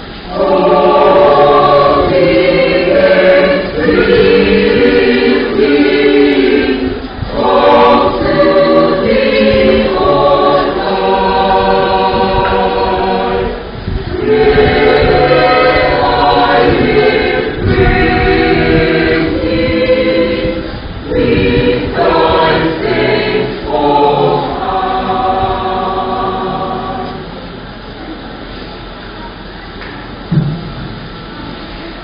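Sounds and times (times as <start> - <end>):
choir singing: 0.1 - 27.7.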